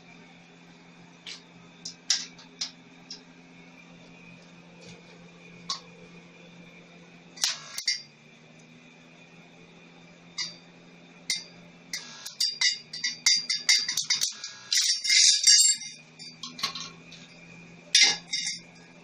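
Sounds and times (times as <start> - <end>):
welding machine humming: 0.0 - 19.0
welding arc crackling: 1.2 - 6.3, 7.2 - 9.1, 10.0 - 19.0.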